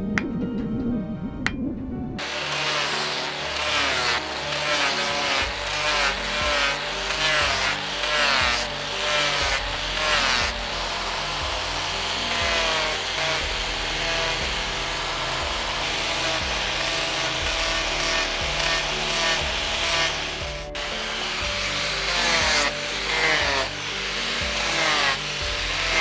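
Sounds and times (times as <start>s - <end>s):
background music: 0.0s - 26.0s
hand tool rasping on knife: 2.2s - 26.0s.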